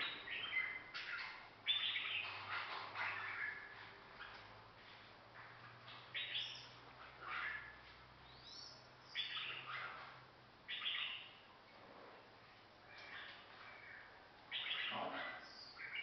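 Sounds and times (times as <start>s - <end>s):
songbird singing: 0.0s - 11.7s, 12.4s - 16.0s.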